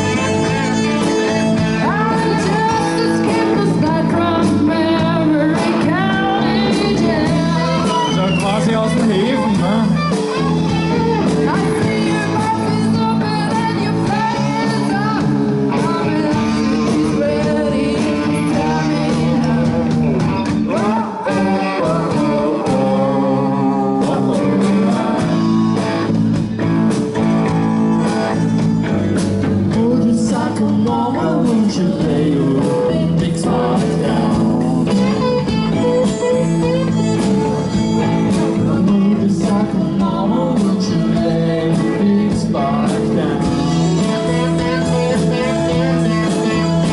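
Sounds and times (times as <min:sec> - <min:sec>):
drums: 0:00.0 - 0:46.9
electric guitars: 0:00.0 - 0:46.9
violin: 0:00.0 - 0:46.9.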